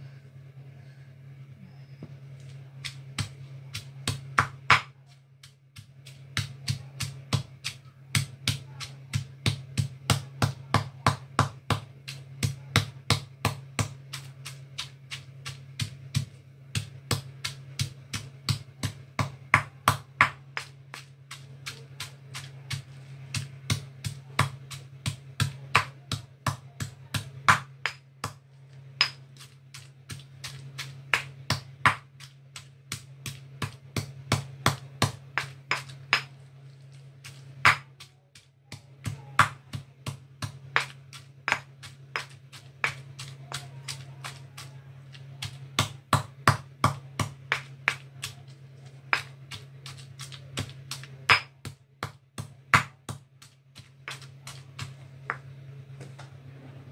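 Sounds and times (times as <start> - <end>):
pestle pounding in stone mortar: 2.8 - 56.3.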